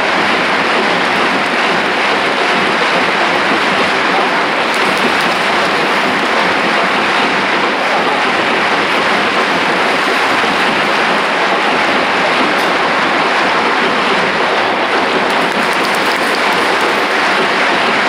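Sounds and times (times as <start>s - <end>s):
stadium crowd din: 0.0s - 18.0s.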